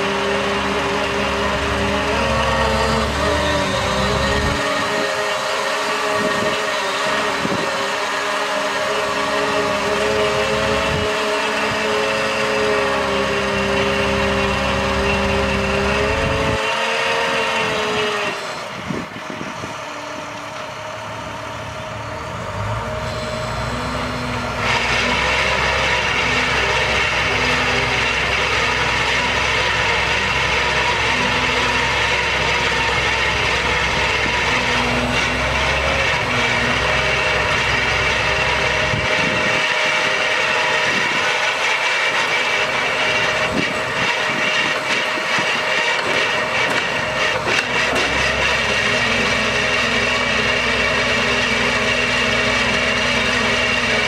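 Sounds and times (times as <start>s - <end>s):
diesel engine drone: 0.0s - 54.0s
high hydraulic whine: 0.0s - 54.0s.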